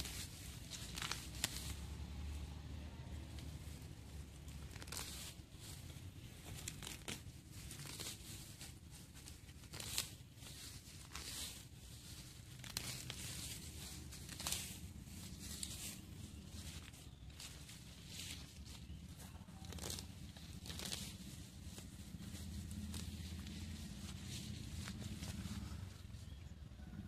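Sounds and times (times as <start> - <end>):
grass being pulled and torn: 0.0 - 26.4.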